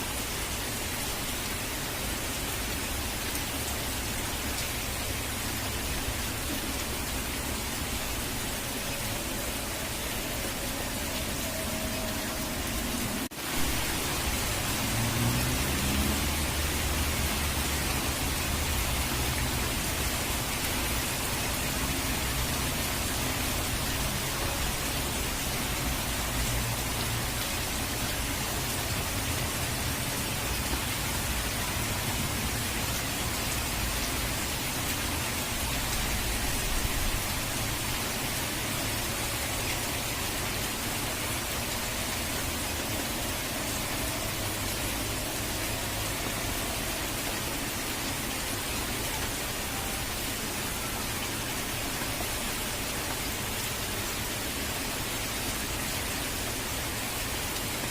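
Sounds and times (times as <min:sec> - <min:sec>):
falling water rushing: 0:00.0 - 0:57.9.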